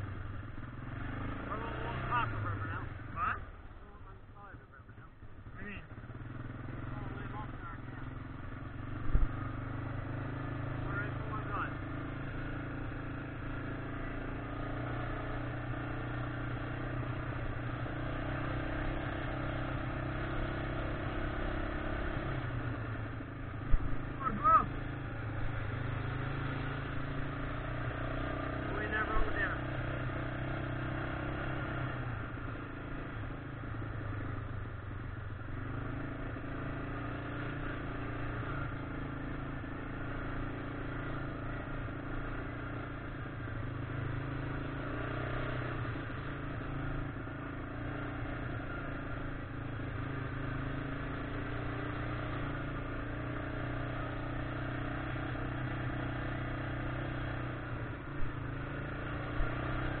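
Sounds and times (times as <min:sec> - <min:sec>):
atv engine running: 0:00.0 - 1:00.0.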